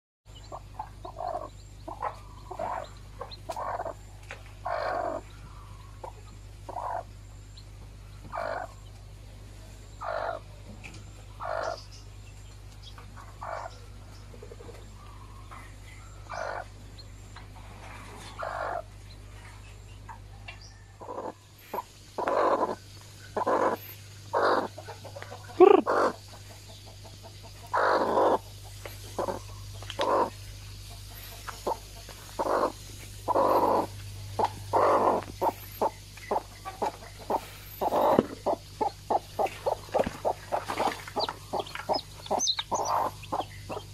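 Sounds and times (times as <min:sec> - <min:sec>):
hen clucking: 0:00.3 - 0:07.2, 0:08.2 - 0:08.9, 0:10.0 - 0:10.5, 0:11.4 - 0:11.8, 0:13.0 - 0:16.8, 0:17.8 - 0:19.1, 0:20.6 - 0:43.9
steady low hum: 0:00.3 - 0:43.9.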